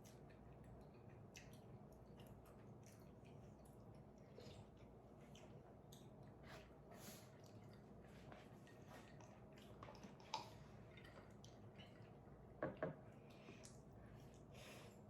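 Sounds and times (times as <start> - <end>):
soft wet chewing: 0.0 - 15.0.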